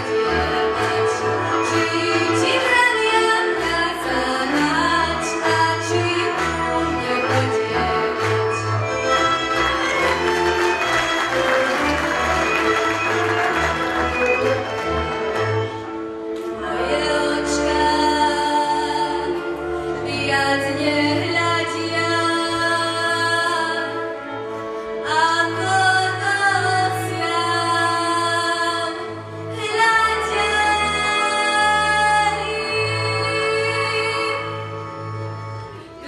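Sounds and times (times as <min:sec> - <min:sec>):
string band with violin and cello: 0:00.0 - 0:36.0.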